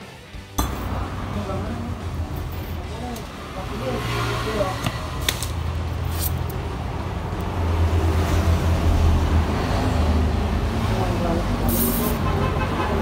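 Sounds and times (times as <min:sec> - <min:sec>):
low engine hum: 0:00.5 - 0:11.7.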